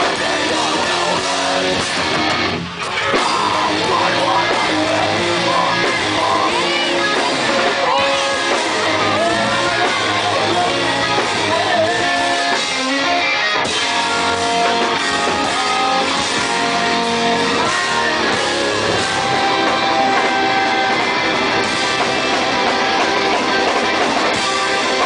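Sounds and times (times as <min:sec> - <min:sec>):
electric guitars: 0:00.0 - 0:25.0
rock band playing: 0:00.0 - 0:25.0.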